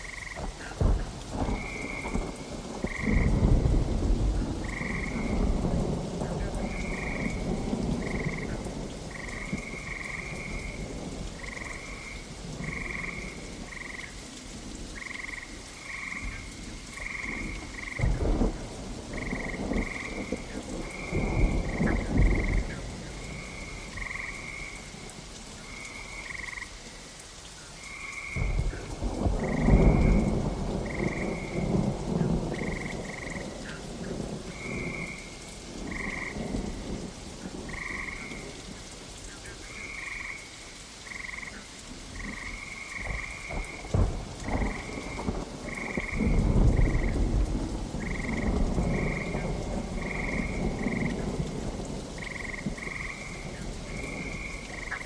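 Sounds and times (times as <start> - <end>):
thunder rumbling: 0.0 - 14.0, 14.7 - 26.6, 28.3 - 38.8, 42.1 - 55.0
frogs croaking: 0.0 - 55.0
steady rain: 0.0 - 55.0.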